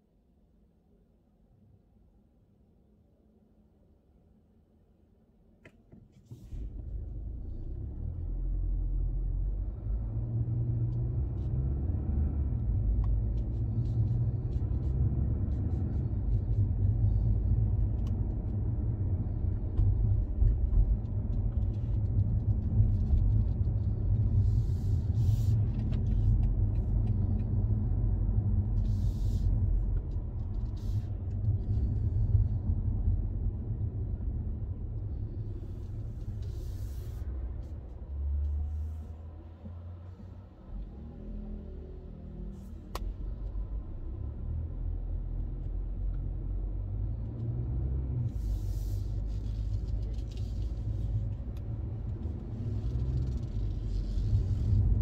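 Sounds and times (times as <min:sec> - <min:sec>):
car engine and tyres rumbling: 0:05.6 - 0:55.0.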